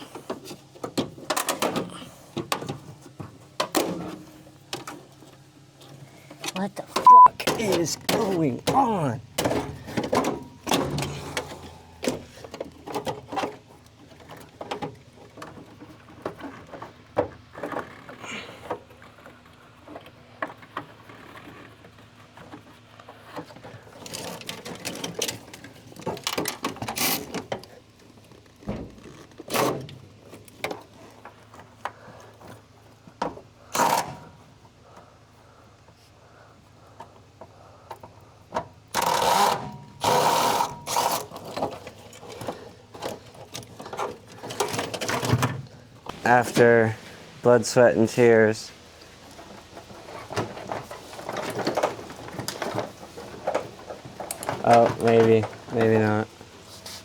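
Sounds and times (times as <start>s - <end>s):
sharp knocks and clatter of parts: 0.0s - 35.1s, 36.9s - 57.0s.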